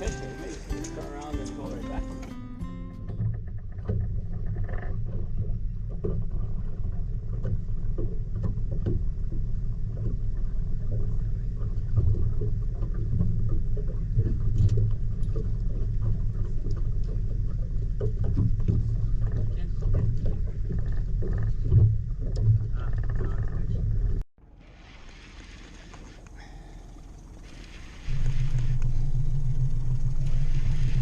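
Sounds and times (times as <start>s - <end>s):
motorboat engine rumble: 0.0s - 31.0s
water splashing against hull: 0.0s - 31.0s.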